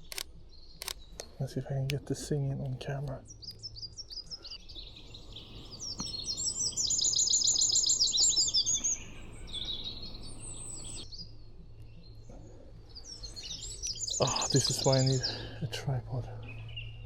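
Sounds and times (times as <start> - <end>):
wren singing trills: 2.9 - 17.0.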